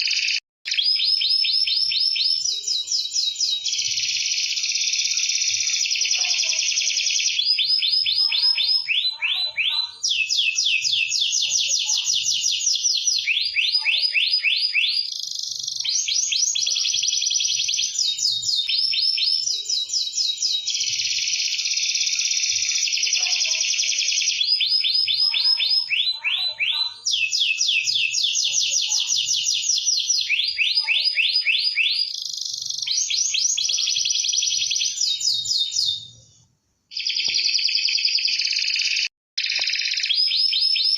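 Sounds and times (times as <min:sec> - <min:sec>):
canary singing trills: 0:00.0 - 0:36.3, 0:36.9 - 0:40.9.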